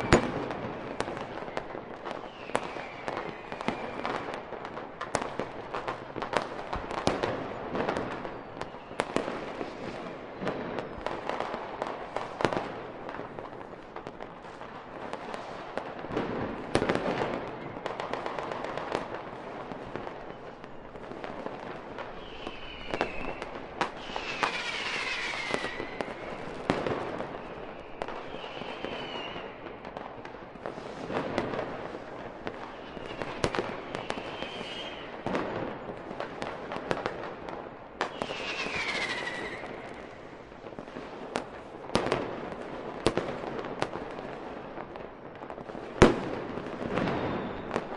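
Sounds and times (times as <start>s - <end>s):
fireworks whistling: 0.0s - 12.7s, 15.2s - 37.3s, 38.0s - 42.2s, 46.0s - 47.9s
fireworks bangs and crackling: 0.0s - 47.9s.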